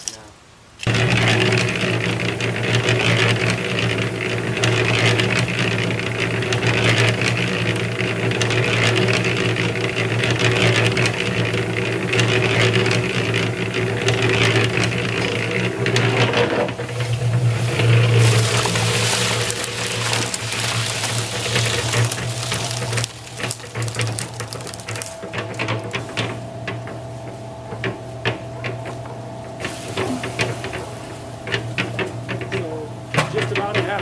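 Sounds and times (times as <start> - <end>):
wet concrete churning: 0.8 - 26.2, 29.6 - 34.0
concrete mixer humming: 0.8 - 34.0.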